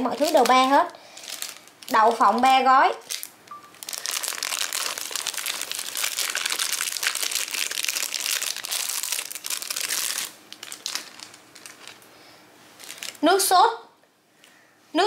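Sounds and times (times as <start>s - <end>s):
plastic packaging crinkling: 0.0s - 12.1s, 12.7s - 13.3s.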